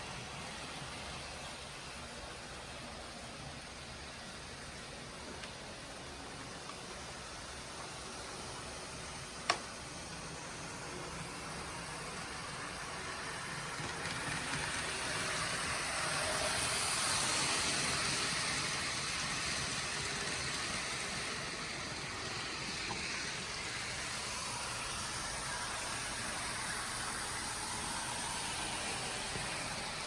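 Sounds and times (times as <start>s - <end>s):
model train motor hiss: 0.0s - 30.0s.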